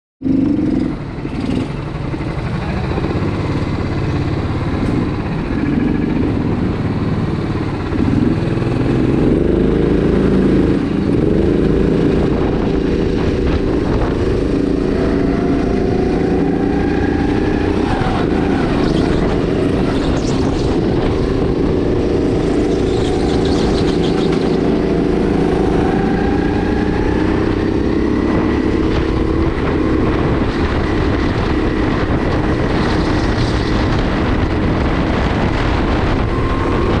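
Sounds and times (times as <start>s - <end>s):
kart engine revving: 0.2s - 37.0s.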